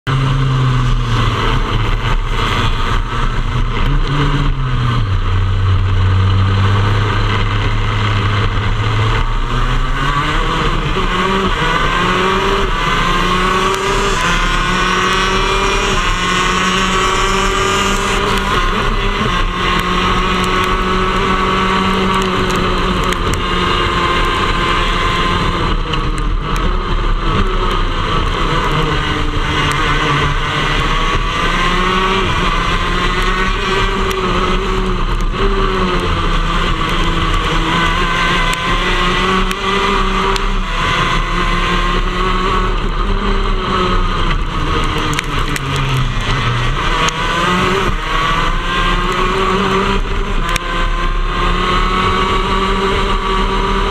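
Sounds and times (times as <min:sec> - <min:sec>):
kart engines revving: 0:00.1 - 0:53.9.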